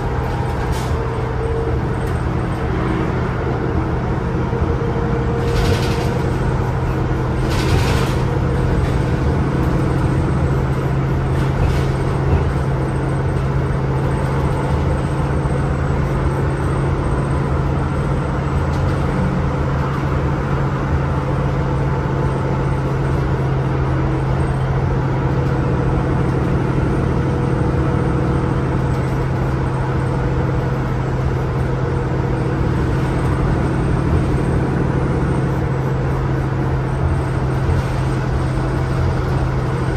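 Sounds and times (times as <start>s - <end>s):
bus engine running: 0.0s - 39.9s
road noise: 0.0s - 39.9s.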